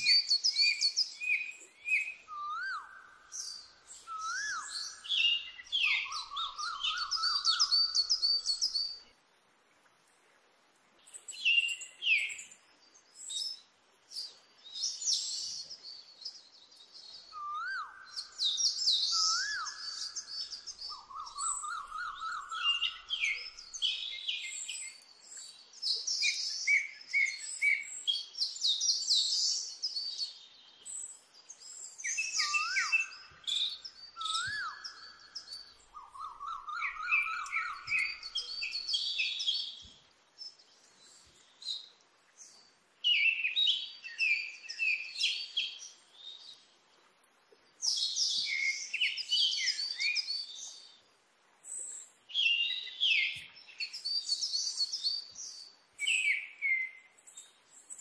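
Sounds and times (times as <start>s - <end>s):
birds chirping and trilling: 0.0s - 9.1s, 11.1s - 46.8s, 47.8s - 51.0s, 51.6s - 58.0s.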